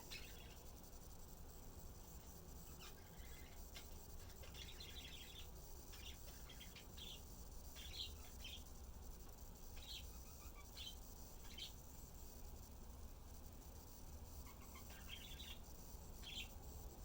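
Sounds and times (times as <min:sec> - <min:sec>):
faint bird chirps: 0:00.0 - 0:12.4, 0:13.7 - 0:17.0.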